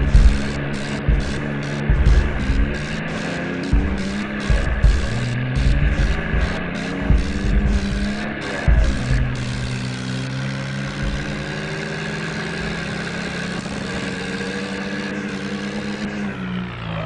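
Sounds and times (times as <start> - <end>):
low thumps: 0.0 - 15.2
tractor diesel engine running: 0.0 - 17.0.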